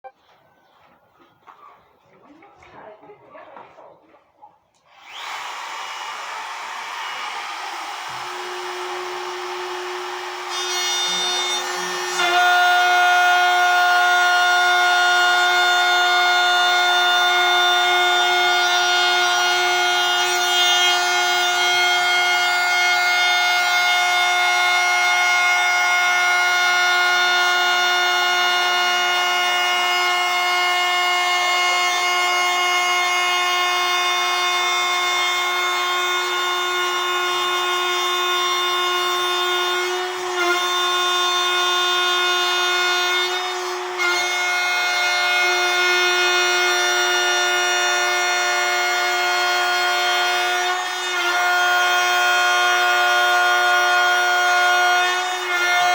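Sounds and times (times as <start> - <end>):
power tool motor whining: 4.9 - 55.9.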